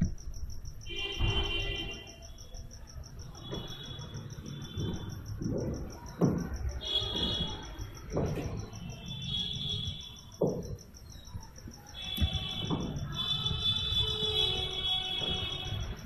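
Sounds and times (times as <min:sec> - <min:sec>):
insects chirping: 0:00.0 - 0:16.0
low insect trill: 0:00.0 - 0:16.0
soft thumps: 0:03.1 - 0:16.0.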